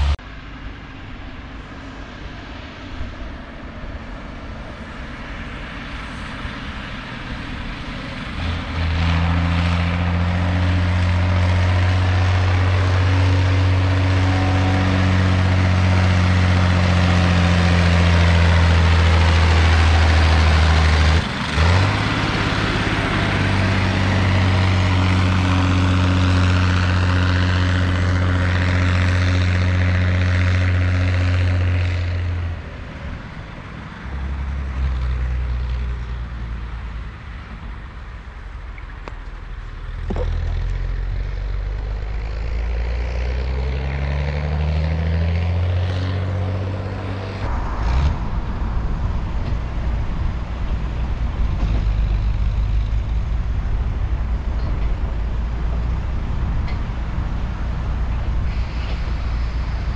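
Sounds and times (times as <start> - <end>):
tractor diesel engine drone: 0.0 - 59.9.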